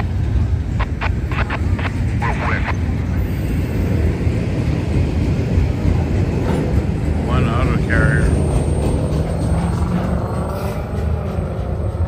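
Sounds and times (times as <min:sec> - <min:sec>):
freight train rumbling: 0:00.0 - 0:12.0
train clicks and squeaks: 0:00.0 - 0:12.0.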